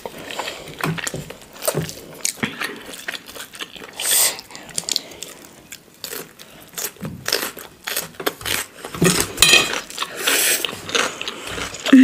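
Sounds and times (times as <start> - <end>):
cucumber crunching: 0.0 - 12.0
noodles being slurped: 0.0 - 12.0.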